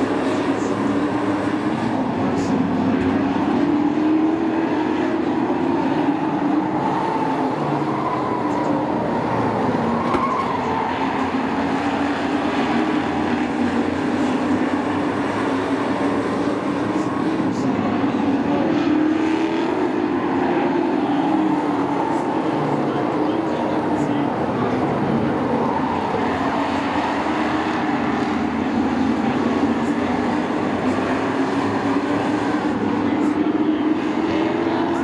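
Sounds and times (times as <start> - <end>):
race truck engines: 0.0 - 35.0.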